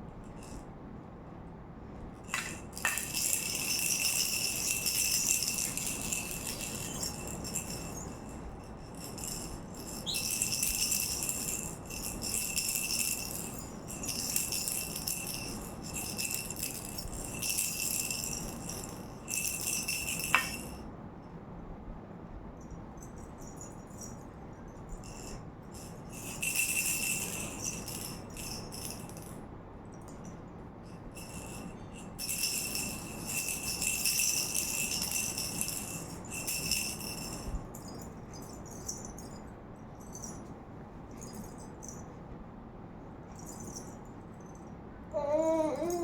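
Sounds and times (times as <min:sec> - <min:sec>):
toy rattle shaken: 0:00.2 - 0:00.7, 0:02.2 - 0:20.9, 0:22.7 - 0:42.2, 0:43.2 - 0:46.0.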